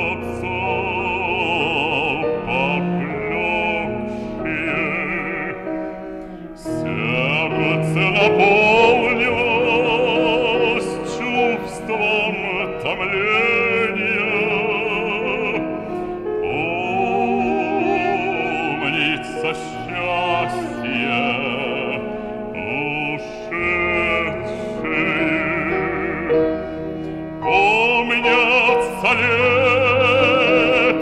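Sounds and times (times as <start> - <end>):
man singing operatically: 0.0 - 26.8, 27.4 - 31.0.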